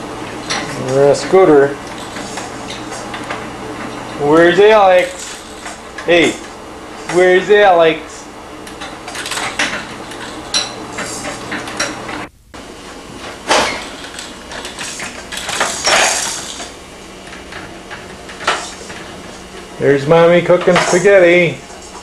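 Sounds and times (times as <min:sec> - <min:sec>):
household objects clattering: 0:00.0 - 0:12.2, 0:12.9 - 0:22.0.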